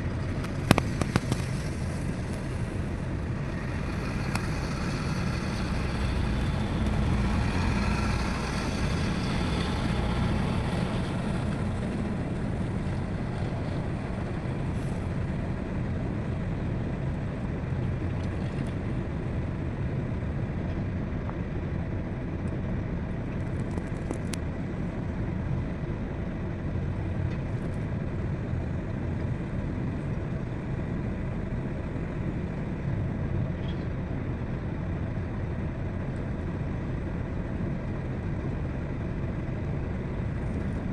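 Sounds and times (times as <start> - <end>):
diesel machinery rumbling: 0.0 - 40.9.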